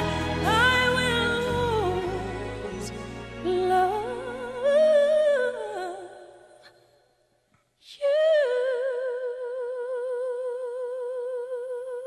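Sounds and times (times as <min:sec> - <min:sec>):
woman singing with vibrato: 0:00.0 - 0:06.6, 0:07.9 - 0:12.0.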